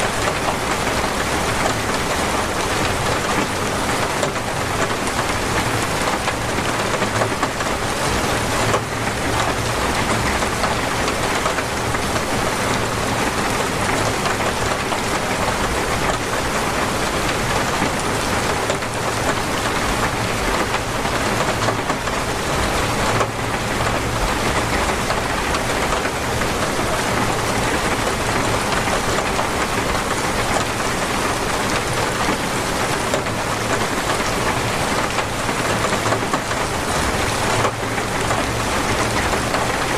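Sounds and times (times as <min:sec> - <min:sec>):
heavy torrential rain: 0:00.0 - 0:39.9.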